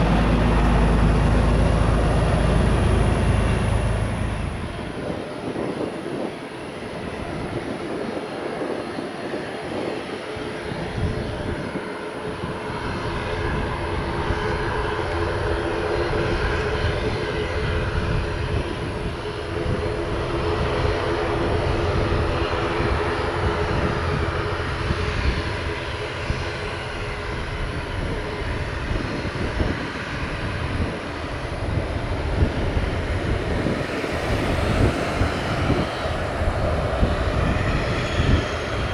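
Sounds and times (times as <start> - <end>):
jet plane passing: 0.0 - 38.9.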